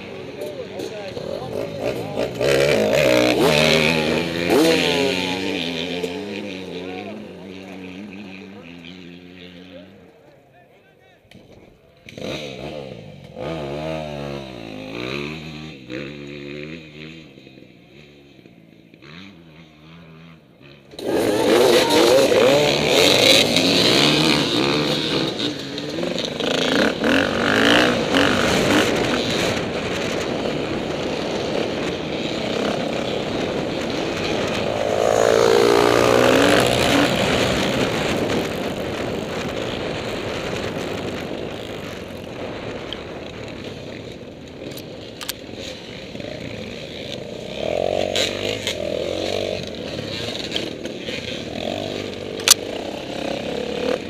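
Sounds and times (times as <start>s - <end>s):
dirt bike engine revving: 0.0s - 10.2s, 11.3s - 54.0s.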